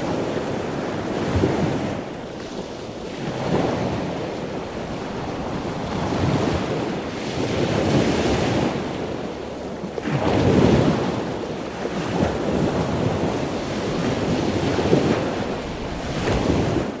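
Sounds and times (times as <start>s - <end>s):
ocean waves breaking on shore: 0.0s - 17.0s
wind buffeting microphone: 0.0s - 17.0s.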